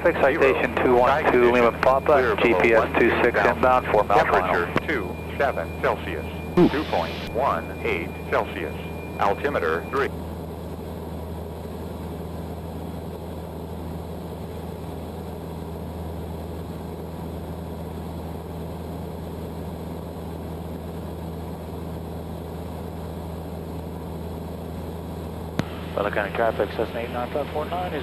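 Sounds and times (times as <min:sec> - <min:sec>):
small plane engine droning in cabin: 0:00.0 - 0:28.0.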